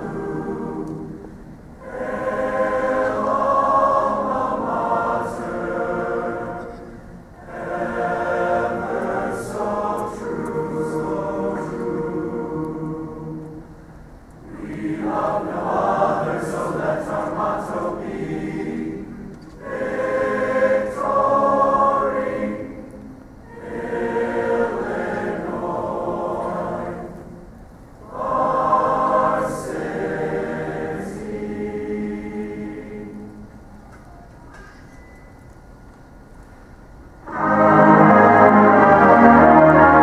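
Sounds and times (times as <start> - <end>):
large choir singing: 0.0 - 33.8, 37.2 - 40.0.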